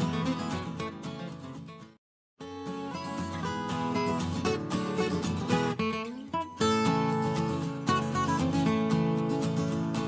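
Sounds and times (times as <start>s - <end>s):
country acoustic guitar music: 0.0s - 10.0s.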